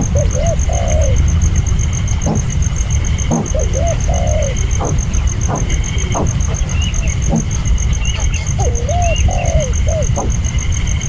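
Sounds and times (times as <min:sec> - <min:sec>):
birds giving low looping calls: 0:00.0 - 0:11.0
steady low rumble: 0:00.0 - 0:11.0
rapid high-pitched pulsing: 0:01.6 - 0:11.0.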